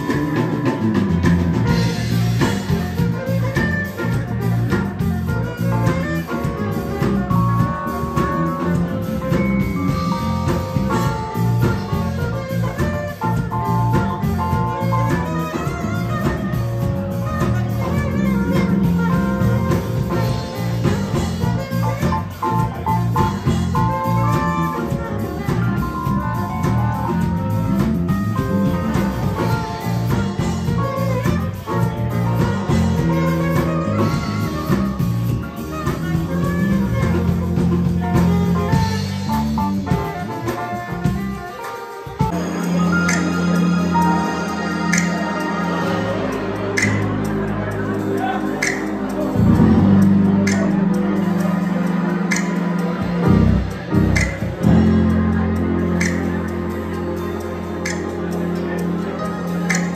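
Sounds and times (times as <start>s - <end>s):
drum kit: 0.0s - 59.9s
electric bass guitar: 0.0s - 59.9s
keyboard: 0.0s - 59.9s
saxophone: 0.0s - 59.9s.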